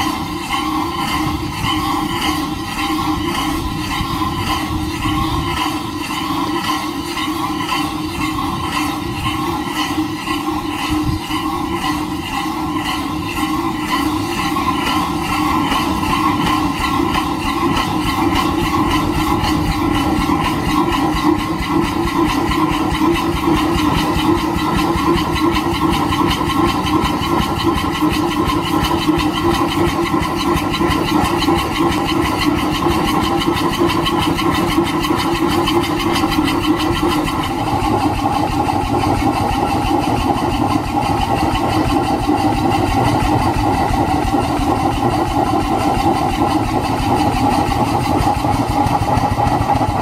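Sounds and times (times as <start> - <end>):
steam engine exhaust chuffing: 0.0 - 50.0
steam hissing: 0.0 - 50.0.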